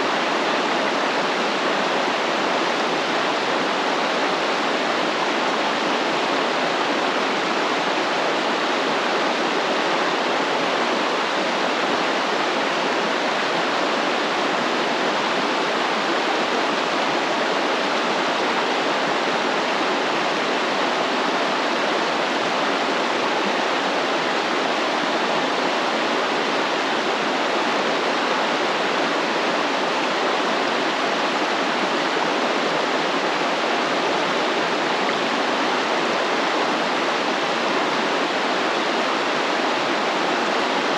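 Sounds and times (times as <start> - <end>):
stream running water: 0.0 - 40.9.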